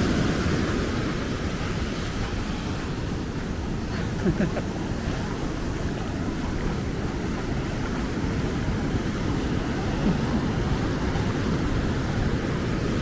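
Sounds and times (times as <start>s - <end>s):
storm surf breaking on beach: 0.0s - 13.0s
wind rumble on microphone: 0.0s - 13.0s.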